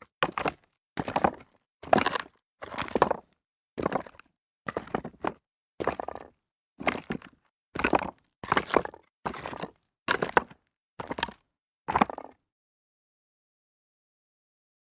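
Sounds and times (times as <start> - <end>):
footsteps on loose rocks: 0.3 - 12.3.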